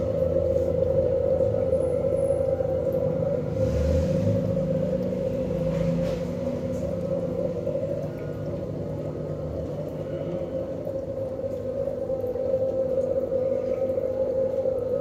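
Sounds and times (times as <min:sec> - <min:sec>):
aquarium filter pump humming: 0:00.0 - 0:15.0.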